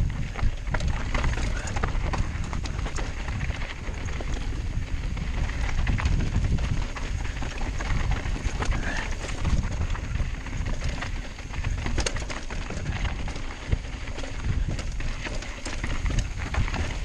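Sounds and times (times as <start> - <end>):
bike rattling: 0.0 - 17.0
bike tyres crunching over rocks: 0.0 - 17.0
wind rumble on microphone: 0.0 - 17.0.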